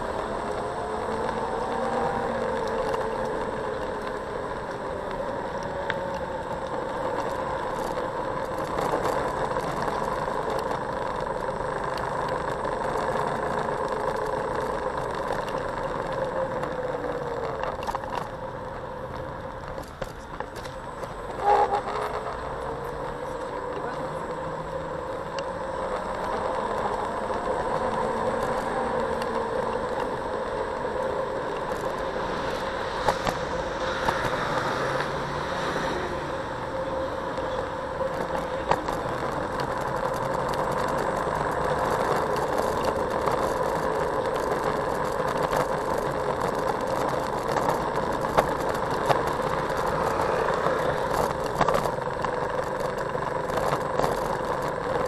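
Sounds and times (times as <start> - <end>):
electric motor whine: 0.0 - 19.8, 20.4 - 55.0
road and wind noise: 0.0 - 55.0.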